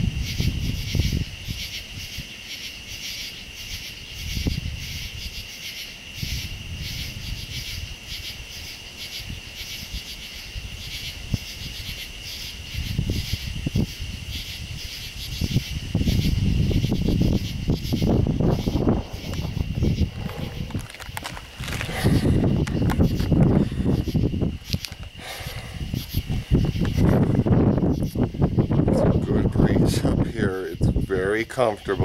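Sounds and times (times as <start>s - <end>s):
insects chirping: 0.0s - 32.0s
wind rumble on microphone: 0.0s - 32.0s.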